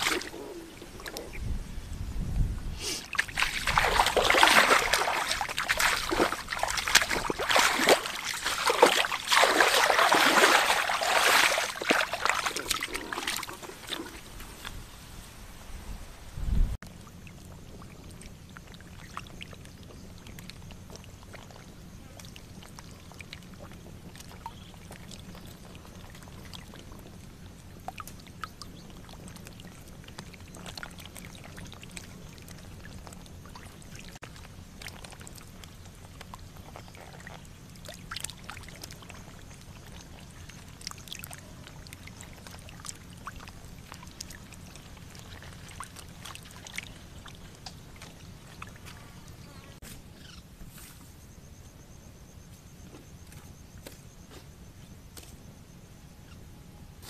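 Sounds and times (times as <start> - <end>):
water splashing and sloshing: 0.0 - 1.4, 3.0 - 15.8, 16.8 - 51.0.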